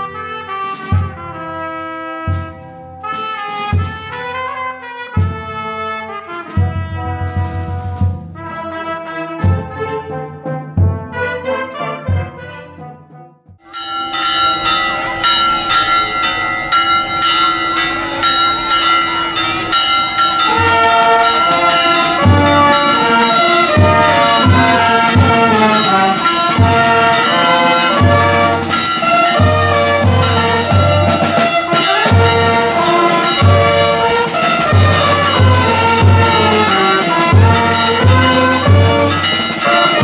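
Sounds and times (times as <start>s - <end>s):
brass band playing: 0.0s - 40.0s.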